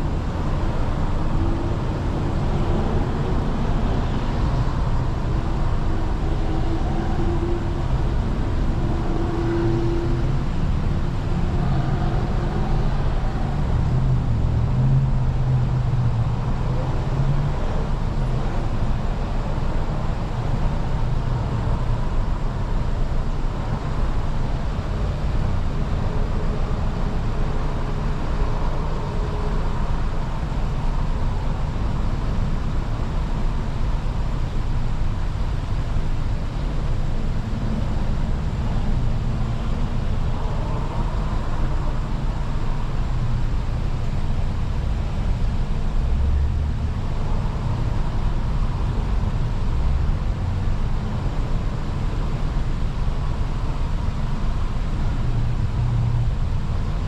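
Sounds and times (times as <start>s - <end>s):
car engine rumble: 0.0s - 57.0s
road noise inside car: 0.0s - 57.0s.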